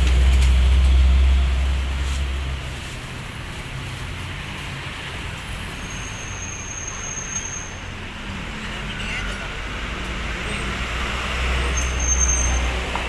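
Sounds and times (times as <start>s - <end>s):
passing vehicle rumble: 0.0s - 13.0s
road traffic noise: 0.0s - 13.0s.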